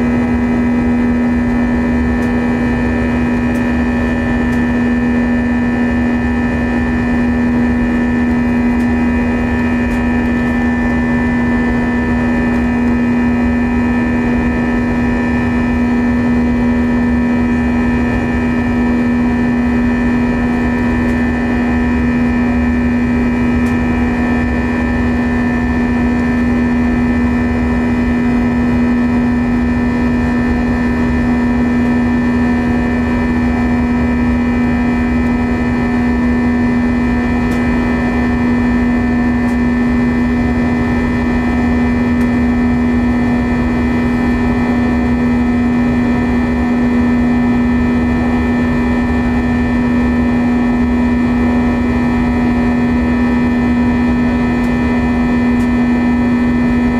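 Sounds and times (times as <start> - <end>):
jet engine cabin drone: 0.0 - 56.9.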